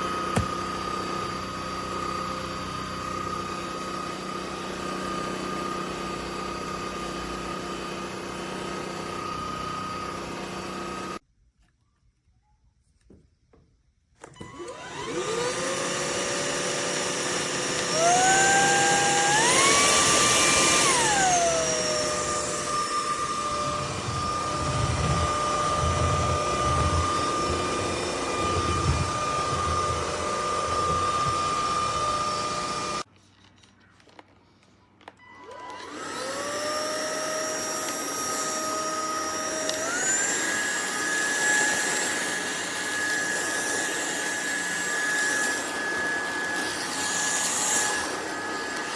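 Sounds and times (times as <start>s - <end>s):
stick vacuum motor whine: 0.0s - 11.2s, 14.2s - 33.1s, 35.0s - 48.9s.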